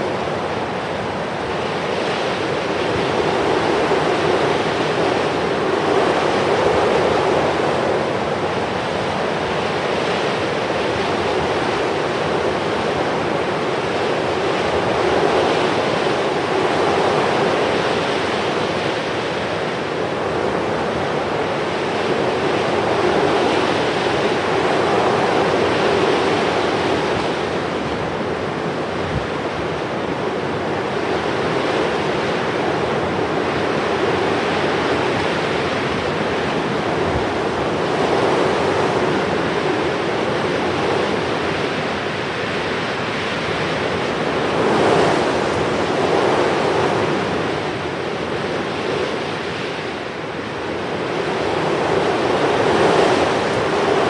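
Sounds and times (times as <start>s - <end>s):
rushing outdoor noise: 0.0s - 54.0s.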